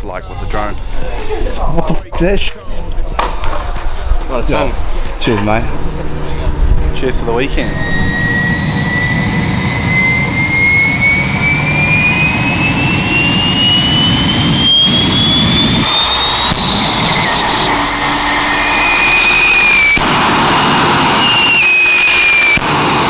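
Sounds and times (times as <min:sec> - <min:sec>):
continuous low rumble: 0:00.0 - 0:23.0
jet turbine whine rising in pitch: 0:00.0 - 0:23.0.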